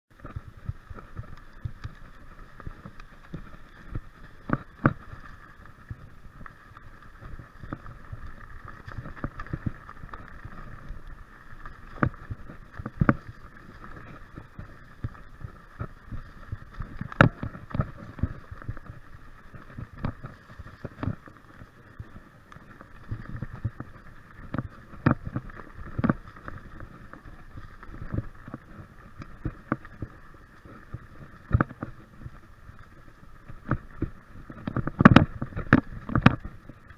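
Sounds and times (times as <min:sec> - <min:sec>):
bike tyres rumbling on dirt: 0:00.1 - 0:36.9.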